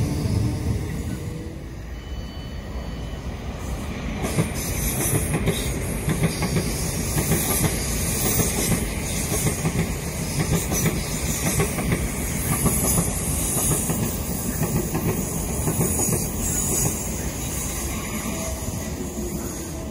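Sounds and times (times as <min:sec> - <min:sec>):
electric train rumbling: 0:00.0 - 0:19.9
train hiss: 0:00.0 - 0:19.9.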